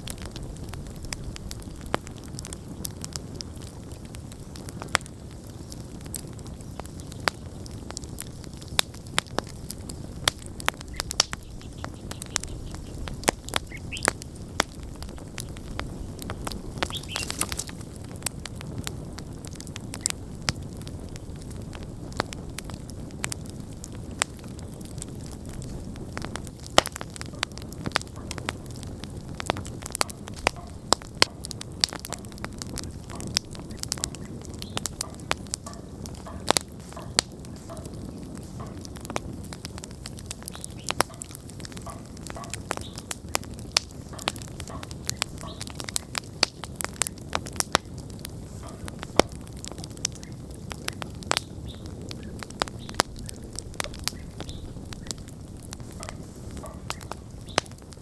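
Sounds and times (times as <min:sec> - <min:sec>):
burning logs crackling and popping: 0:00.0 - 0:58.0
campfire flames rumbling: 0:00.0 - 0:58.0.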